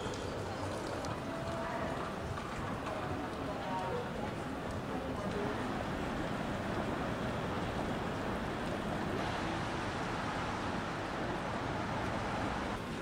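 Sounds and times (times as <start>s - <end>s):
distant traffic: 0.0s - 13.0s.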